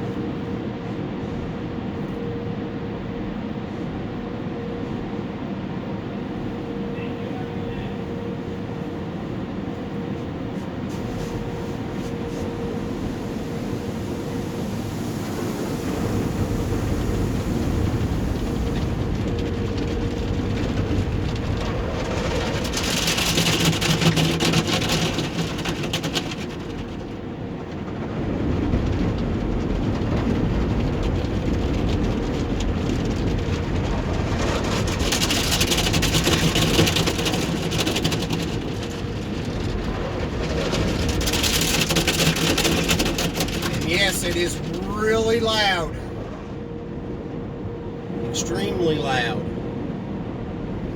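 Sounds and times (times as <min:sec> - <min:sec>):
car wash mechanical rumble: 0:00.0 - 0:50.9.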